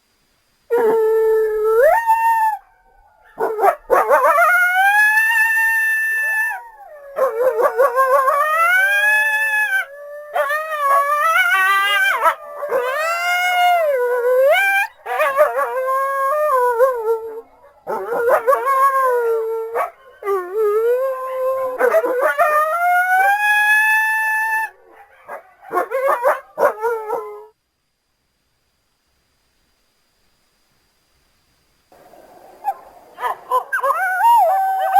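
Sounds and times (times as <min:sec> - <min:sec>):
coyotes howling: 0:00.7 - 0:27.6, 0:32.6 - 0:34.9.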